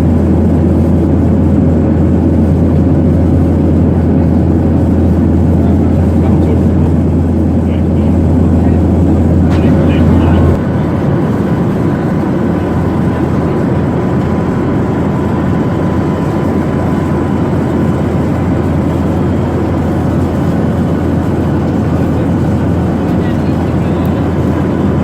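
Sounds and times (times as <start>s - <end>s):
airplane cabin noise: 0.0s - 25.0s.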